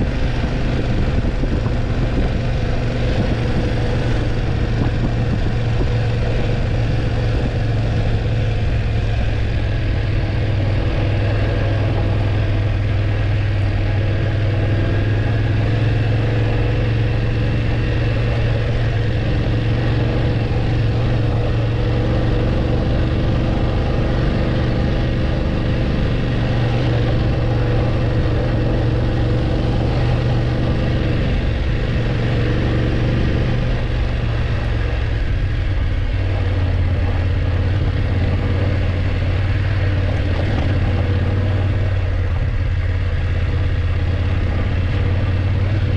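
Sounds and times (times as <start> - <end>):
motorcycle engine droning: 0.0 - 45.9.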